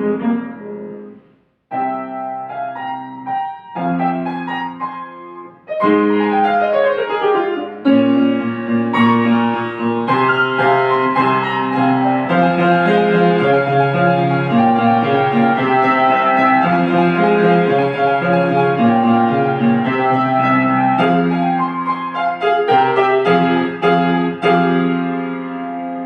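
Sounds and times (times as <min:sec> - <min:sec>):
solo piano classical piece: 0:00.0 - 0:26.0.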